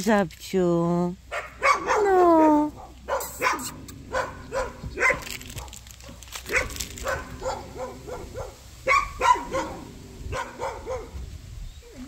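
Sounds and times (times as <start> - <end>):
dogs barking: 1.3 - 11.3.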